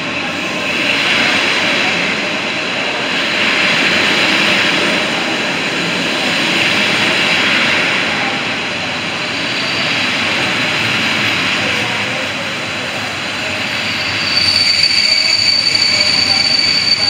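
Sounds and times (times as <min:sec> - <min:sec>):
train wheels rushing on rails: 0:00.0 - 0:17.0.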